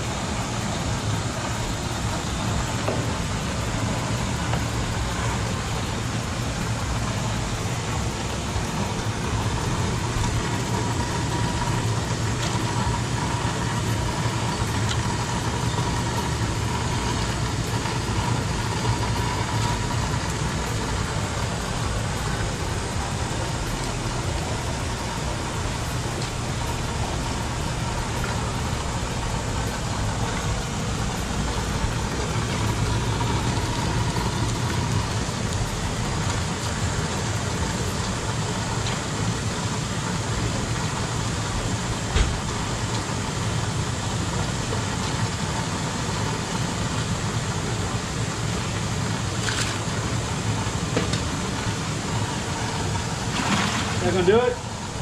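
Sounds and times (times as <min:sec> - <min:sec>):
aerator water bubbling: 0:00.0 - 0:55.0
low hum: 0:00.0 - 0:55.0.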